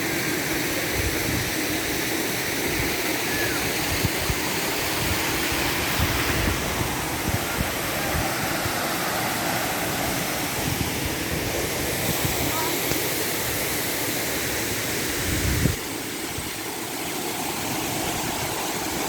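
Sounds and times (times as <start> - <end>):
waterfall rushing and splashing: 0.0 - 19.0.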